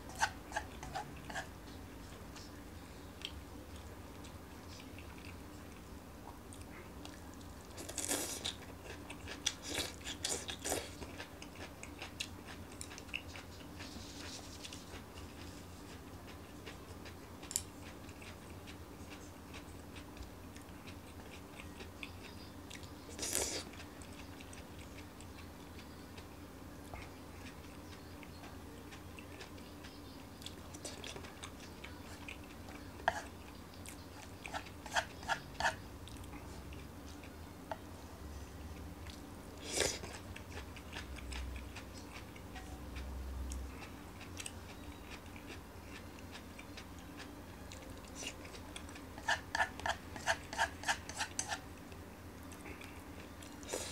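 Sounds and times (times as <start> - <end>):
person chewing: 6.5 - 26.3, 26.9 - 37.9, 39.0 - 53.9.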